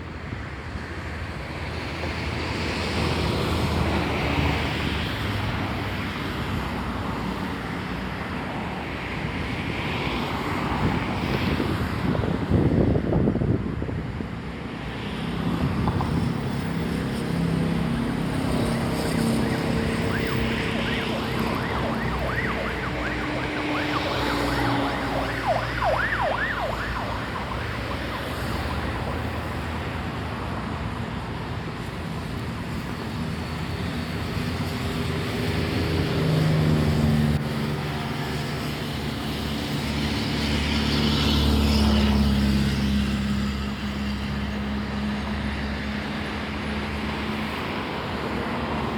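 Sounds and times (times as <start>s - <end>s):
vehicle engines passing: 1.3s - 48.9s.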